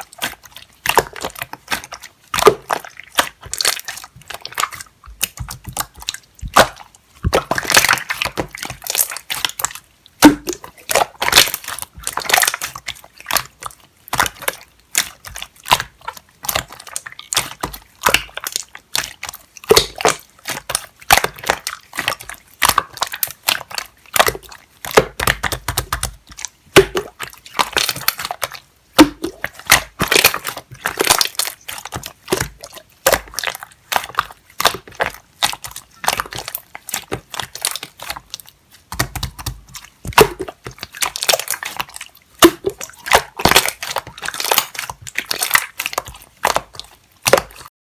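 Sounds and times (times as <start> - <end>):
slime squeezed by hand: 0.2 - 47.7.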